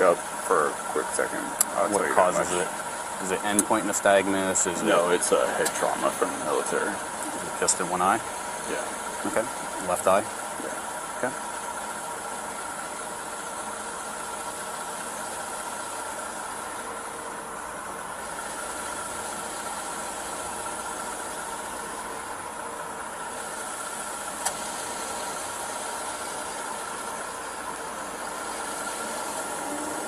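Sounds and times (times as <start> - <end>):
car engines idling: 0.0 - 30.0.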